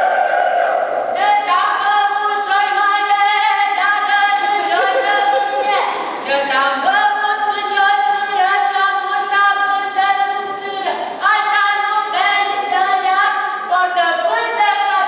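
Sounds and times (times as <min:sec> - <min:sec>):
woman singing unaccompanied: 0:01.2 - 0:15.0.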